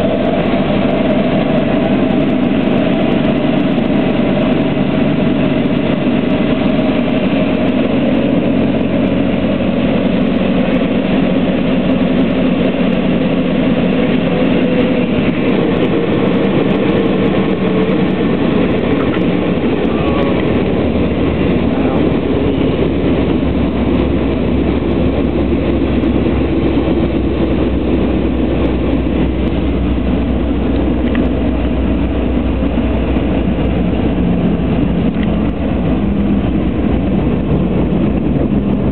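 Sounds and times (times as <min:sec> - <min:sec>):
light aircraft engine and propeller: 0:00.0 - 0:38.9
wheels rumbling on runway: 0:00.0 - 0:38.9.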